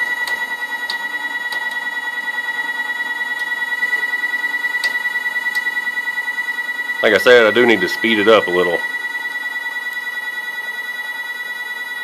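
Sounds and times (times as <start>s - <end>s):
stepper motor whining: 0.0s - 12.0s.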